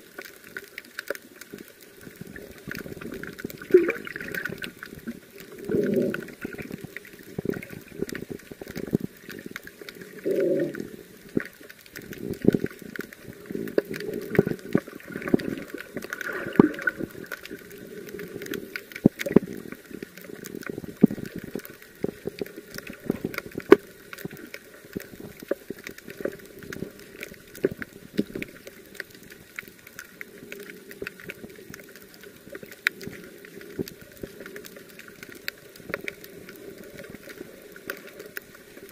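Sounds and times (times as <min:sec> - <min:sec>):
muffled underwater bubbling: 0:00.0 - 0:38.9
sharp clicks and crackles: 0:00.0 - 0:38.9.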